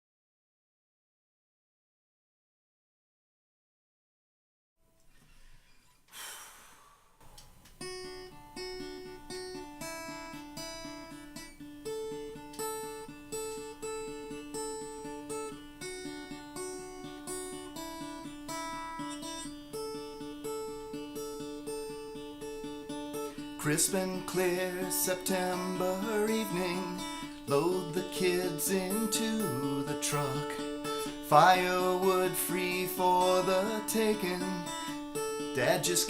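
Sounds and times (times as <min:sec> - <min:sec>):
picked acoustic guitar: 0:05.1 - 0:36.0.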